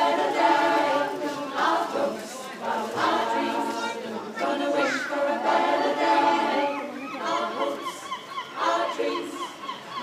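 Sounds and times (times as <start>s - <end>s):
mixed choir singing a cappella: 0.0s - 10.0s.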